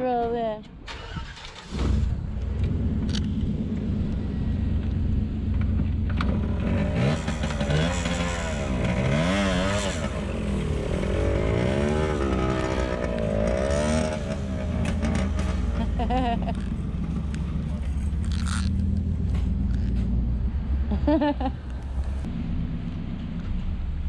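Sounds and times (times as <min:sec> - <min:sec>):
motorcycle engine revving: 0:01.2 - 0:22.9.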